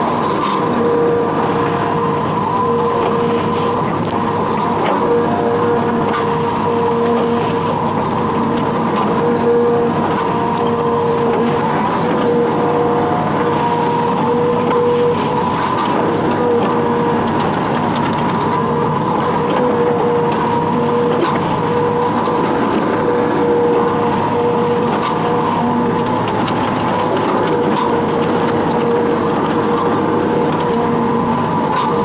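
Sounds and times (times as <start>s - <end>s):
excavator engine whining: 0.0s - 32.0s.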